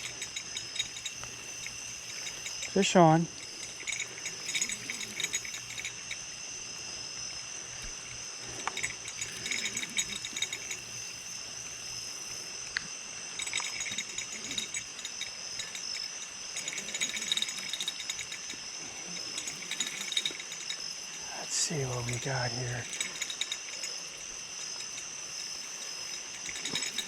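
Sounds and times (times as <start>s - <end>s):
rattling clicks: 0.0s - 6.2s, 8.5s - 11.2s, 12.6s - 18.6s, 19.2s - 27.0s
insects trilling: 0.0s - 27.0s.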